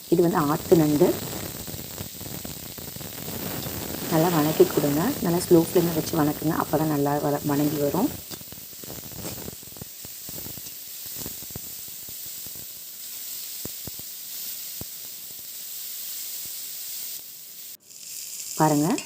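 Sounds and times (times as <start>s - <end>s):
crab sizzling in hot oil: 0.0s - 19.0s
small crackles and pops: 0.0s - 19.0s.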